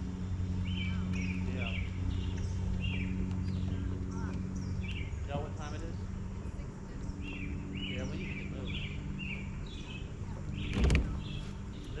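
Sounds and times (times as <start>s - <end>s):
steady low hum: 0.0s - 12.0s
bird chirping: 0.5s - 12.0s.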